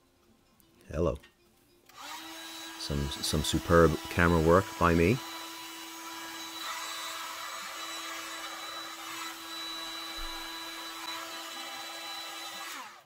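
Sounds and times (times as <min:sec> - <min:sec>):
heat gun blowing hot air: 0:02.0 - 0:13.0.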